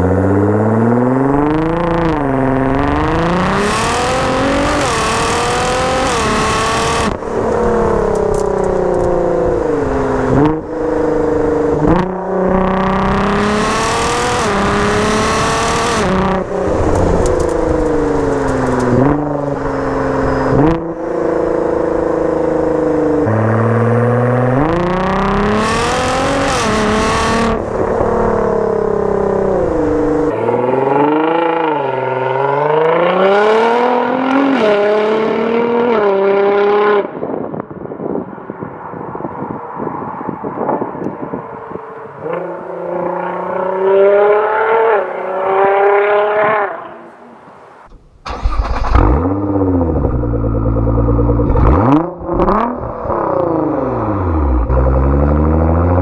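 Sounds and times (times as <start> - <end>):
car engine accelerating hard: 0.0 - 37.2, 48.2 - 56.0.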